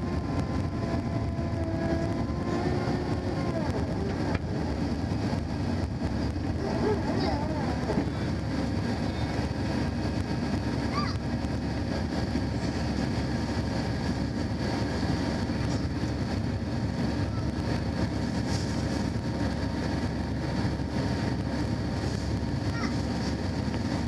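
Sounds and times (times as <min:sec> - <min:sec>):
jet engine drone: 0:00.0 - 0:24.0
rushing airflow: 0:00.0 - 0:24.0
thin steady whine: 0:00.0 - 0:24.0.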